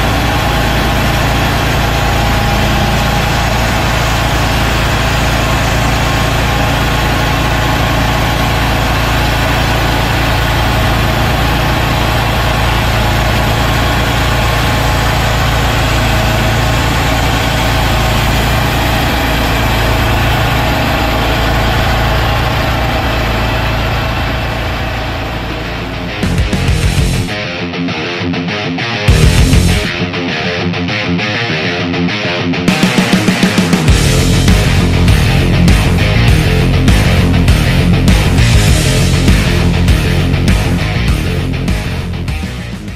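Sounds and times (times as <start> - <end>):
band sawmill cutting log: 0.0 - 27.3, 32.7 - 42.8.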